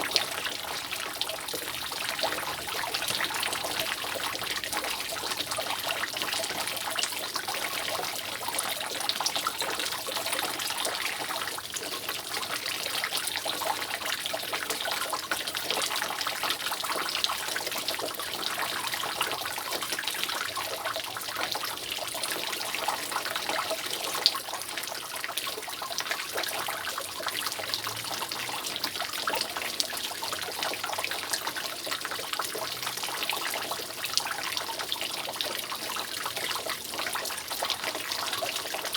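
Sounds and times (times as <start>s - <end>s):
water dripping from roof: 0.0s - 38.9s.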